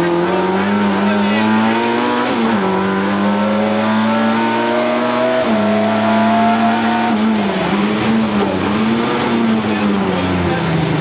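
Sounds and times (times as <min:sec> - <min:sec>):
rally car engine from inside: 0:00.0 - 0:11.0.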